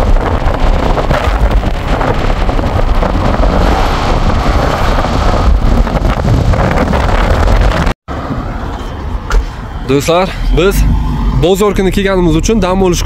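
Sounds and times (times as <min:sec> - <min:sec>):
road and tyre rumble: 0:00.0 - 0:13.0
wind buffeting microphone: 0:00.0 - 0:13.0.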